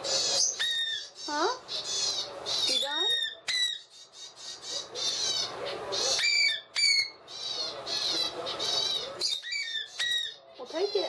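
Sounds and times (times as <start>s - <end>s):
parakeet chick squawking: 0.0s - 11.0s.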